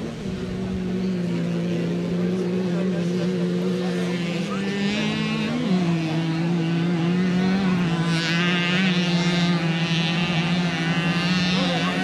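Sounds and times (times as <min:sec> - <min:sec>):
moped engines buzzing: 0:00.0 - 0:12.0.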